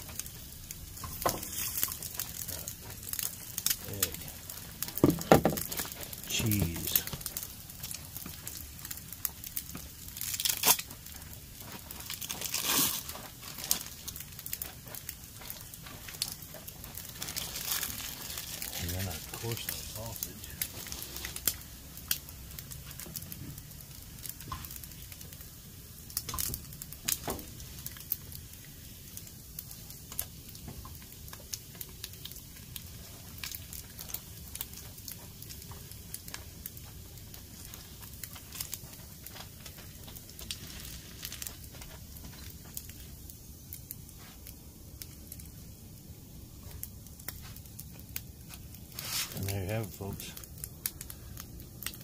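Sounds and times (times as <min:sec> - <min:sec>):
food sizzling on a griddle: 0:00.0 - 0:52.0
hot fat crackling and popping: 0:00.0 - 0:52.0.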